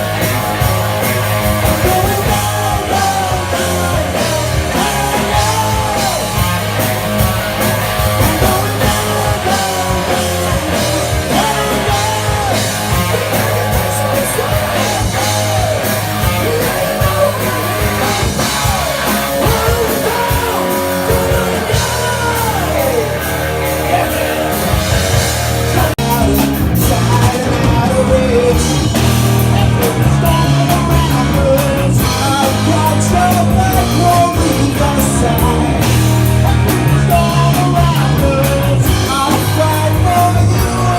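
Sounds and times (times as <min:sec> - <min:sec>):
drums: 0:00.0 - 0:40.9
electric guitars: 0:00.0 - 0:40.9
person singing: 0:00.0 - 0:40.9.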